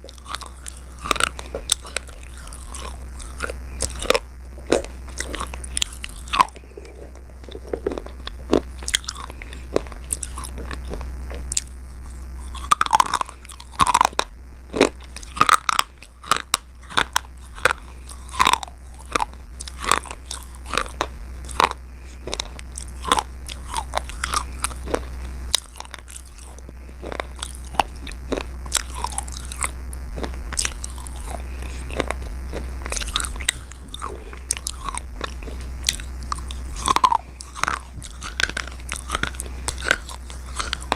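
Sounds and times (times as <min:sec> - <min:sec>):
person biting and chewing slate: 0:00.0 - 0:40.9.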